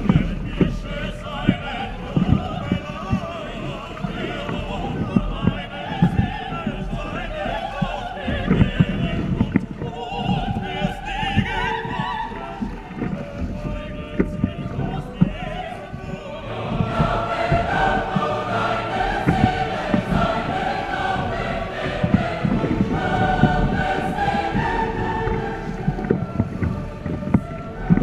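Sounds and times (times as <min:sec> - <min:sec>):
operatic singing with music: 0:00.0 - 0:28.0.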